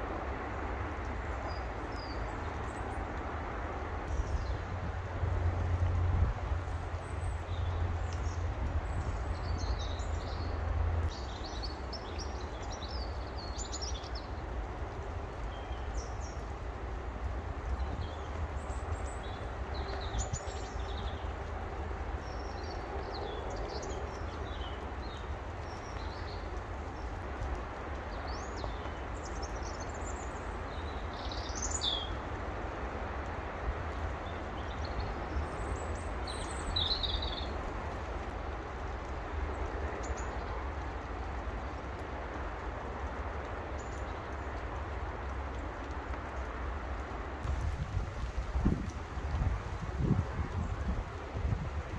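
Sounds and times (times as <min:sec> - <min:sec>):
songbirds chirping: 0:06.4 - 0:51.9.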